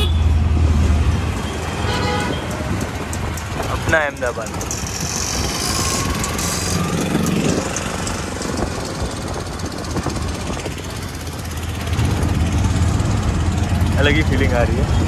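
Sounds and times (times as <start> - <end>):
small engine rattling chug: 2.6 - 14.9.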